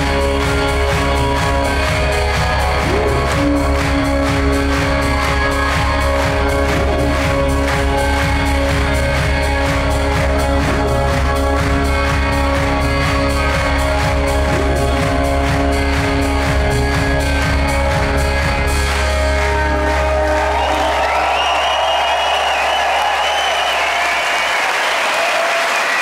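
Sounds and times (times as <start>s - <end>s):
live rock band playing: 0.0s - 24.5s
drum kit: 0.0s - 25.0s
crowd cheering and applause: 0.0s - 26.0s.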